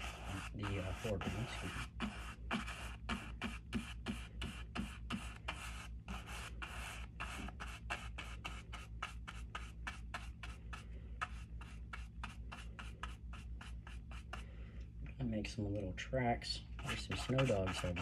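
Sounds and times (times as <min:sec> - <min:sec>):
paintbrush scratching on canvas: 0:00.0 - 0:14.5, 0:16.8 - 0:18.0.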